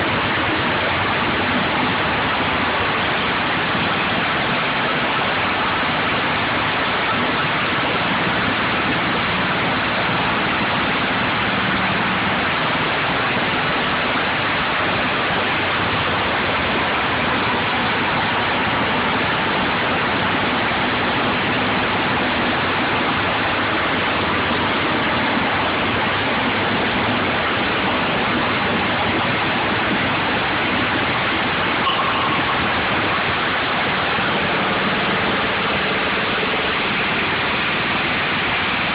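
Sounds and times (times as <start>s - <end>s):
briquette press engine running: 0.0s - 38.9s.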